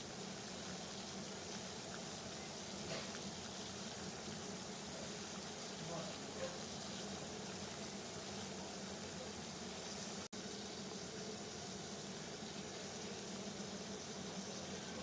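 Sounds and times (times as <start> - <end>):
water boiling: 0.0 - 15.0.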